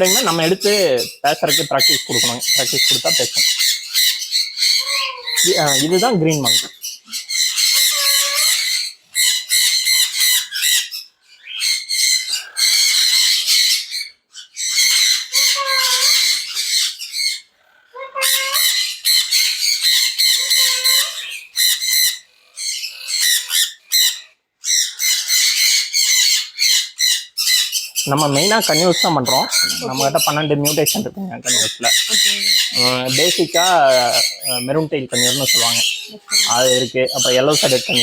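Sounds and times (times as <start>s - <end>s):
parakeets squawking: 0.0s - 38.0s.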